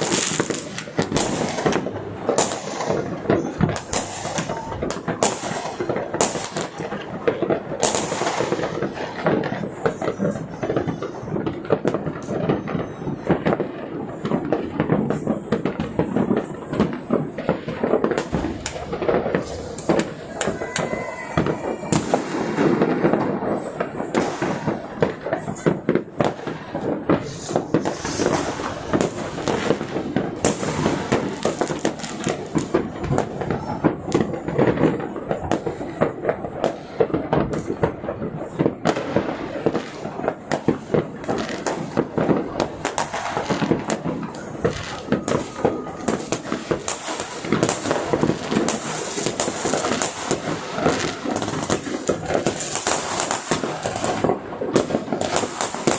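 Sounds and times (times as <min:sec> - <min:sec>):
firecrackers banging and crackling: 0:00.0 - 0:55.9.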